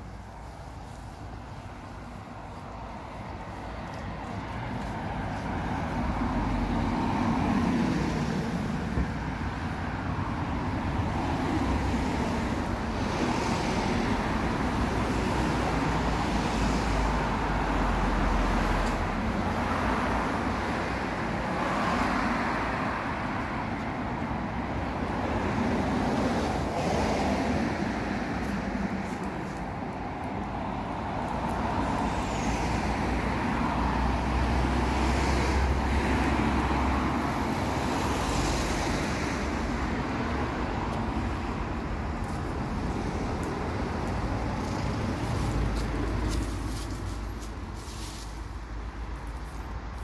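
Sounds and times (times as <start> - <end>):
cars passing by: 0.0 - 50.0.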